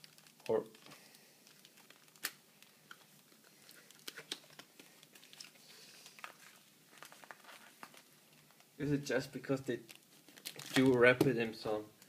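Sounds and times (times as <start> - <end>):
plastic wrap crinkling: 0.0 - 8.8, 9.4 - 11.6.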